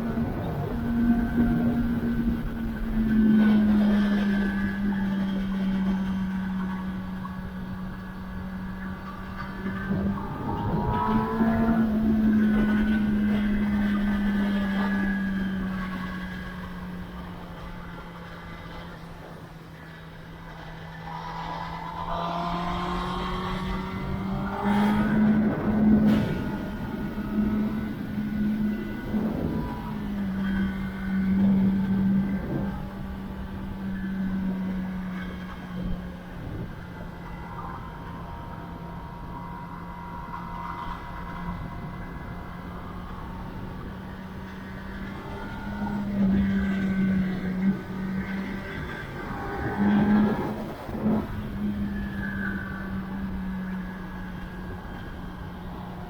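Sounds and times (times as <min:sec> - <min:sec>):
motorcycle engine accelerating: 0:00.0 - 0:56.0
road and wind rumble: 0:00.0 - 0:56.0.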